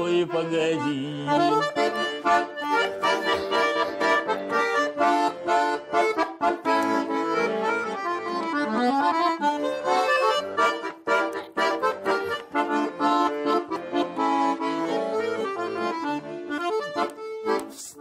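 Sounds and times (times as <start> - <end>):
accordion-led pop-folk music: 0.0 - 18.0.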